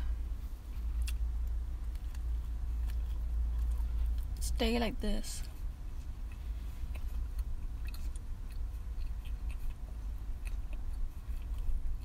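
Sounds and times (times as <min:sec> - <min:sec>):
steady low rumble: 0:00.0 - 0:12.0
wet chewing clicks: 0:00.8 - 0:04.4, 0:05.4 - 0:12.0.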